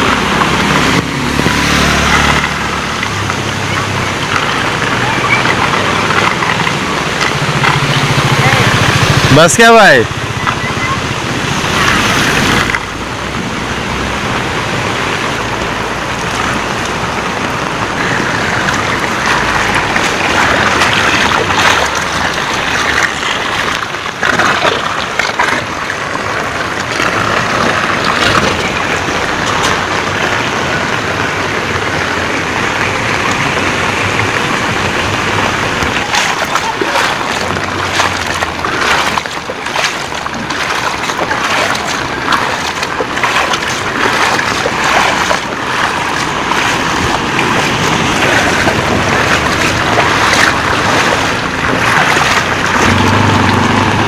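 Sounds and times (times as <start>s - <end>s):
falling rain: 0.0s - 54.0s
floodwater rushing: 0.0s - 54.0s.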